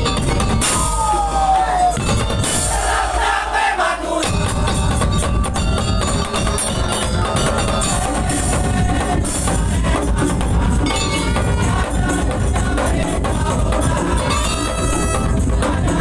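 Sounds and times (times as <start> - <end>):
percussion ensemble through speakers: 0.0 - 16.0
crowd shouting: 0.6 - 16.0.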